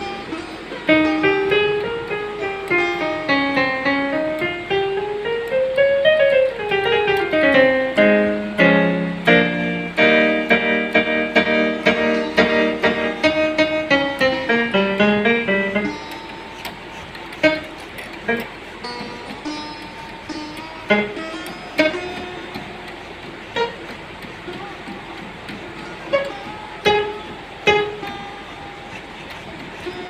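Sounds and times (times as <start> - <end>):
electronic keyboard piano melody: 0.0 - 30.0.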